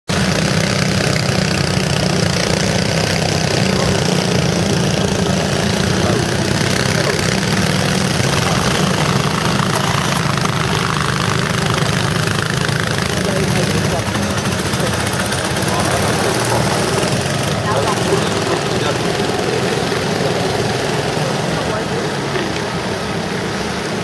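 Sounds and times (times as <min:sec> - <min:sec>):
go-kart engines droning: 0:00.1 - 0:24.0.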